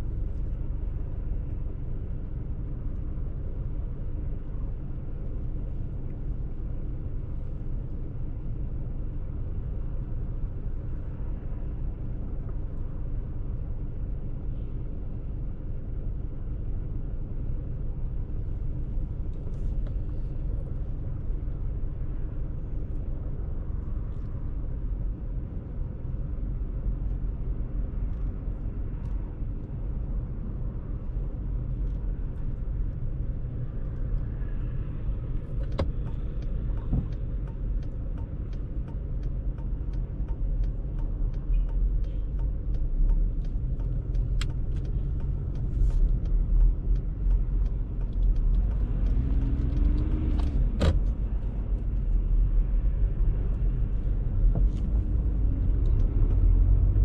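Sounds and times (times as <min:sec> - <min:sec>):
car driving in traffic: 0:00.0 - 0:57.0.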